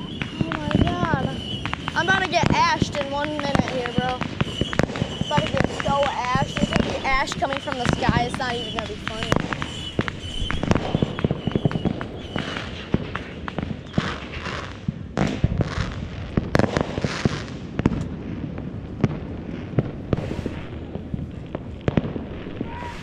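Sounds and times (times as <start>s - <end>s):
fireworks hissing bursts: 0.0s - 17.6s, 20.0s - 23.0s
fireworks cracking and popping: 0.0s - 23.0s.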